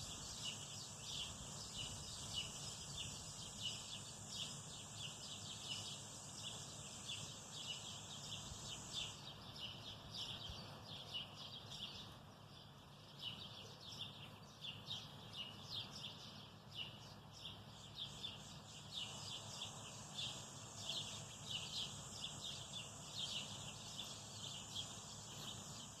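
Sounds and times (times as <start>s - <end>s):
steady high hiss: 0.0s - 12.2s, 17.4s - 26.0s
birds chirping: 0.0s - 26.0s.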